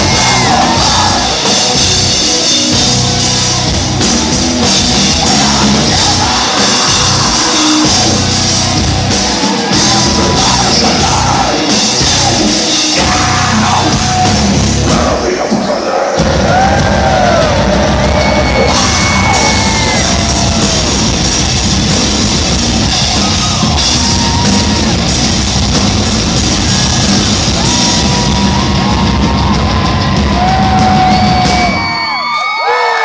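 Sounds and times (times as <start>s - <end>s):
distorted guitars: 0.0s - 32.2s
pounding drums: 0.0s - 32.2s.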